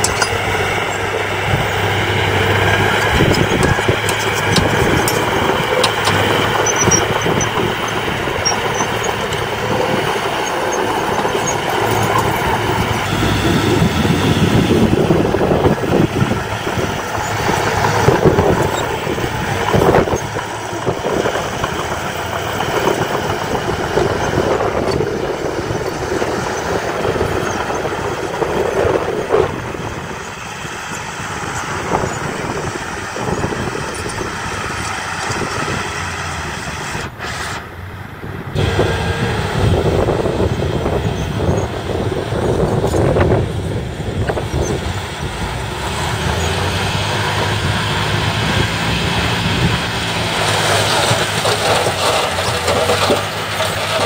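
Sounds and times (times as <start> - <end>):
bulldozer diesel engine under load: 0.0 - 54.0
tracks clattering: 0.0 - 54.0.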